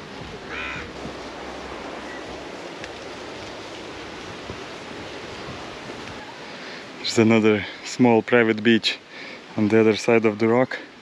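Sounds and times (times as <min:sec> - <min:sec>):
sea surf: 0:00.0 - 0:11.0
wind: 0:00.0 - 0:11.0.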